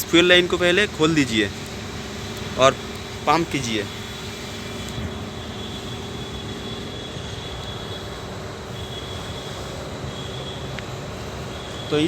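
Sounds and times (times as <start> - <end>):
faint high whine: 0.0 - 12.0
steady mechanical hum: 0.0 - 12.0.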